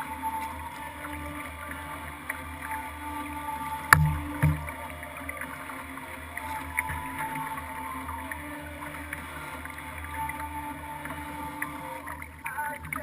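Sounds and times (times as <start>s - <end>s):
water sloshing against hull: 0.0s - 13.0s.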